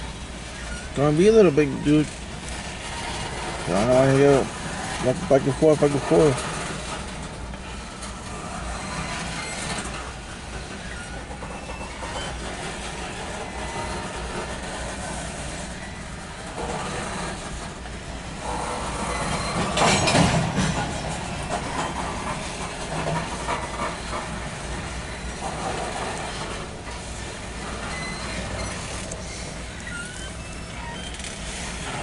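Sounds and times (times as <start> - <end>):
steel wheels rumbling on rail: 0.0 - 32.0.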